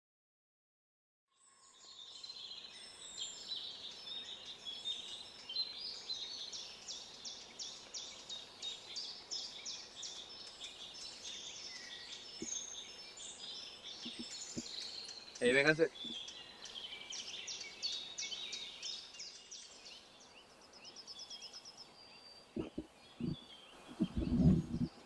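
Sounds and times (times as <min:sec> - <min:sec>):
small songbirds chirping: 0:01.3 - 0:25.0
faint steady hiss: 0:02.1 - 0:25.0.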